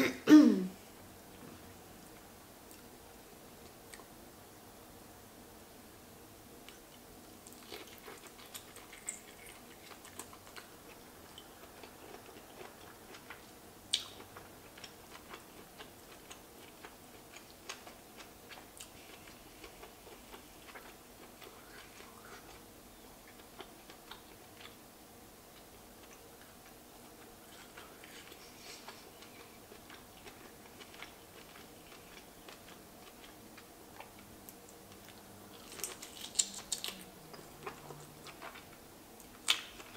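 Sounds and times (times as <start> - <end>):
chewing: 6.6 - 22.6, 23.2 - 24.8, 25.5 - 39.9.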